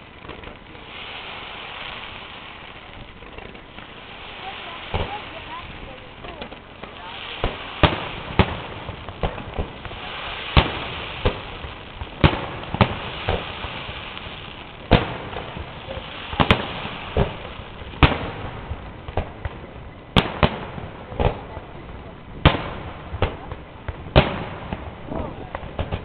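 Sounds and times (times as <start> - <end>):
firework shells bursting: 0.0 - 21.6.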